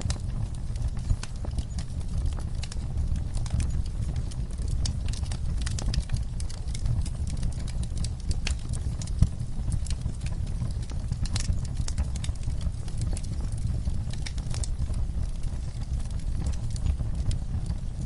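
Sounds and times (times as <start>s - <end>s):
fire pops and snaps: 0.0s - 18.0s
low rumble of flames: 0.0s - 18.0s.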